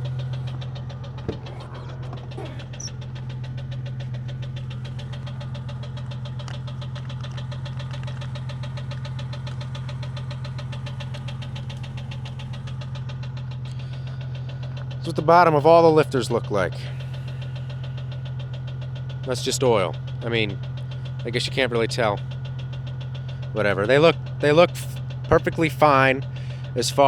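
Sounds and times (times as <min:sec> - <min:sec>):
engine idling with ticking knock: 0:00.0 - 0:27.0.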